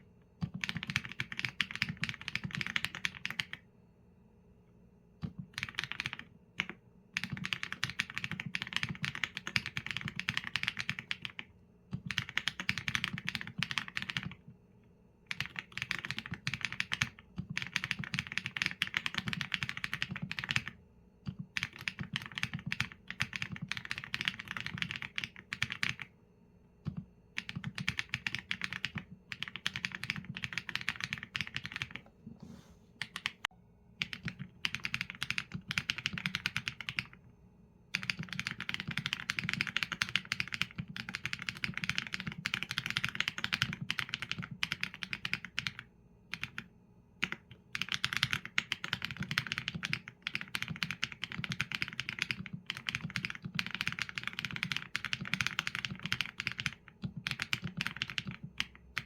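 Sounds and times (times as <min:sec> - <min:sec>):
mechanical keyboard typing: 0:00.4 - 0:03.6, 0:05.2 - 0:14.4, 0:15.3 - 0:26.1, 0:26.8 - 0:32.0, 0:33.0 - 0:33.4, 0:34.0 - 0:37.2, 0:37.9 - 0:59.0.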